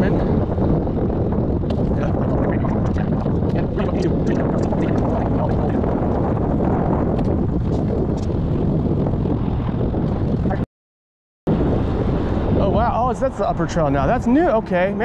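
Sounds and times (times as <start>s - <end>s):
wind buffeting microphone: 0.0s - 10.6s, 11.5s - 15.0s.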